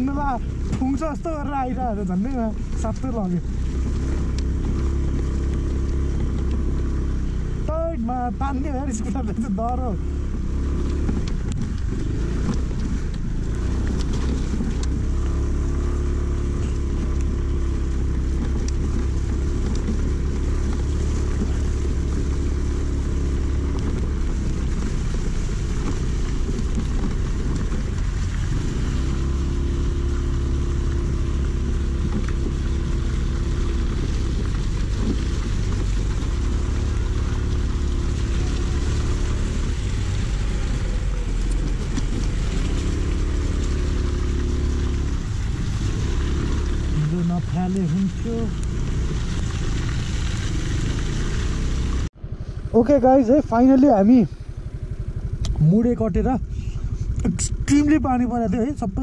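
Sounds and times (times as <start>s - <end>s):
scooter engine running: 0.0s - 59.0s.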